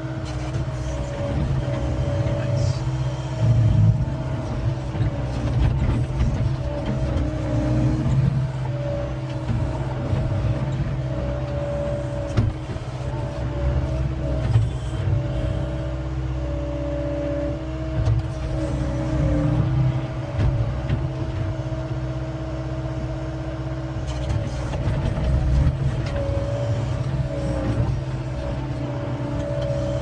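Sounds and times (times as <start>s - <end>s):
diesel engine running: 0.0s - 30.0s
hydraulic whine: 0.0s - 30.0s.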